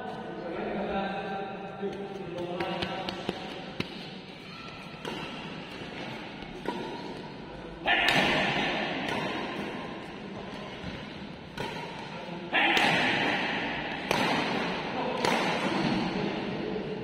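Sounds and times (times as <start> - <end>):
rackets hitting shuttlecock: 1.9 - 16.3.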